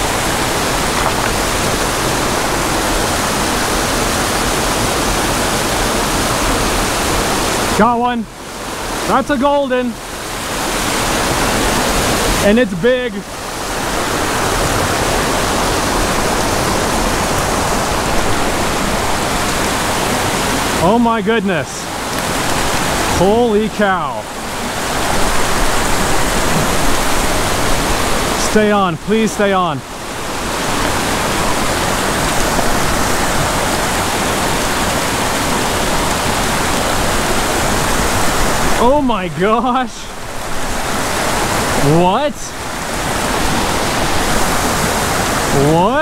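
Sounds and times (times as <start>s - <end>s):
creek rushing over rocks: 0.0s - 46.0s.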